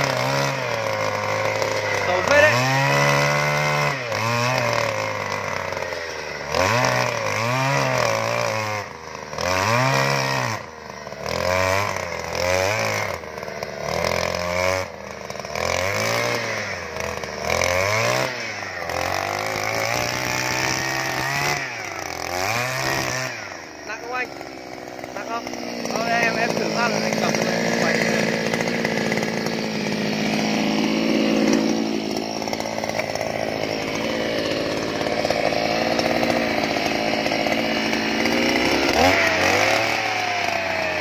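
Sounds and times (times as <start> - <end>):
earth auger engine revving: 0.0 - 41.0.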